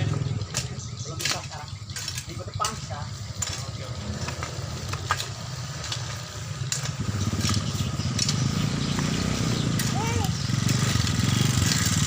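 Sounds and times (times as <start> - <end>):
small engine pulsing rumble: 0.0 - 12.0.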